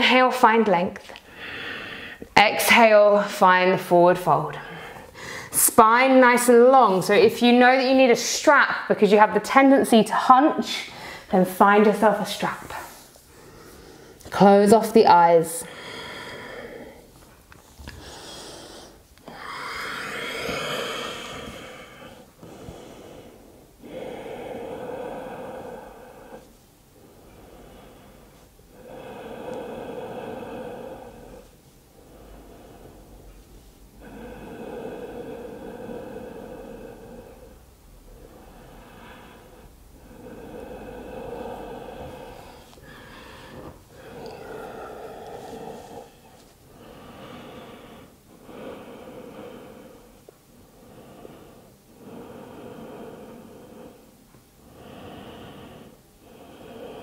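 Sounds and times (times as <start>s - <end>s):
woman breathing deeply: 1.2s - 3.1s, 4.5s - 5.6s, 10.7s - 12.1s, 12.7s - 14.4s, 15.2s - 57.0s.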